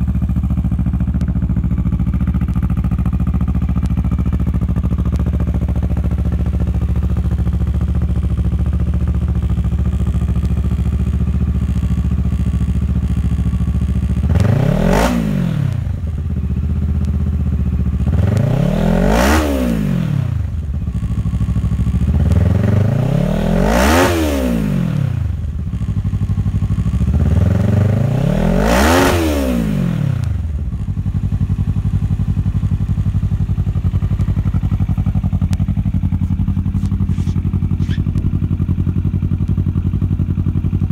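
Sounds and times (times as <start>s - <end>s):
motorcycle engine idling: 0.0s - 40.9s
motorcycle engine revving: 0.0s - 40.9s.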